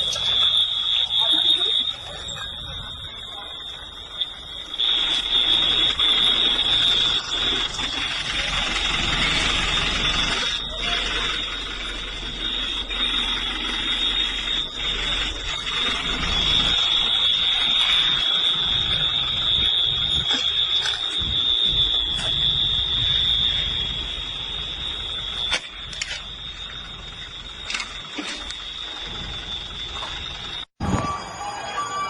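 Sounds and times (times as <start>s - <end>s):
high-pitched alarm tone: 0.0s - 32.0s.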